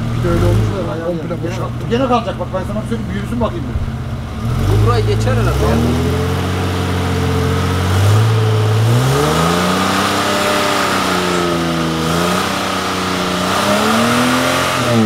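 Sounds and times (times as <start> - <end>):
suv engine revving: 0.0 - 15.0.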